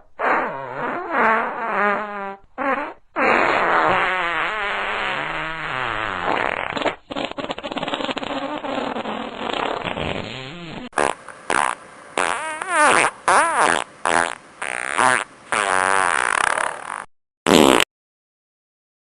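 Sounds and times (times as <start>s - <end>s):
fart sounds: 0.0s - 17.9s.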